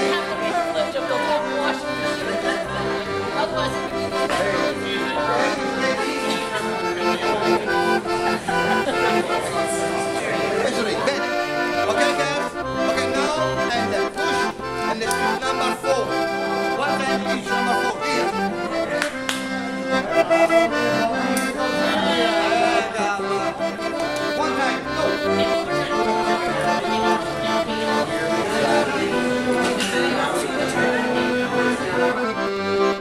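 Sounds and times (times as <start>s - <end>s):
accordion music: 0.0s - 33.0s.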